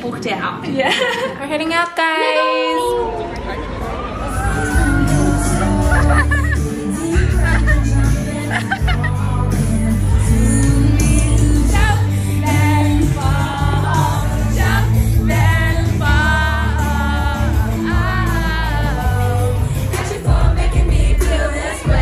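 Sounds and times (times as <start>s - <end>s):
dance music with singing: 4.4s - 22.0s.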